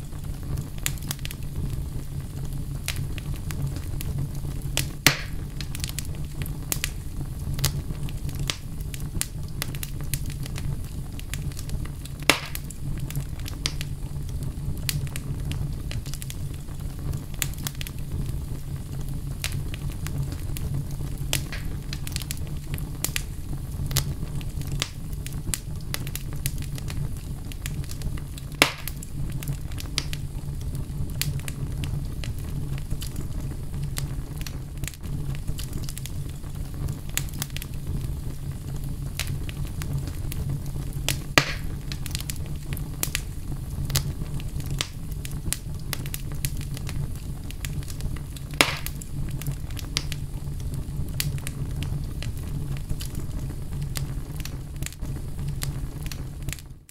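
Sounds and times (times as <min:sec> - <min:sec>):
loud fire pops: 0:00.0 - 0:56.9
wood fire crackling: 0:00.0 - 0:56.9.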